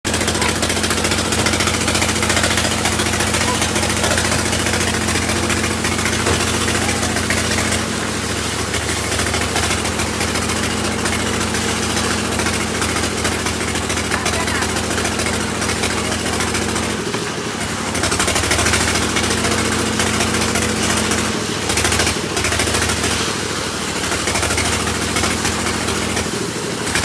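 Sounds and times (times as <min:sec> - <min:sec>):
machine engine running loudly: 0:00.0 - 0:27.0.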